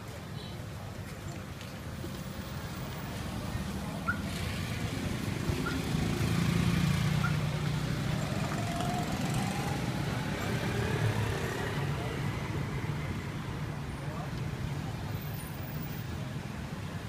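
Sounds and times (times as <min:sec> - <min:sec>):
street traffic: 0:00.0 - 0:17.0
vehicle engine running nearby: 0:00.1 - 0:17.0.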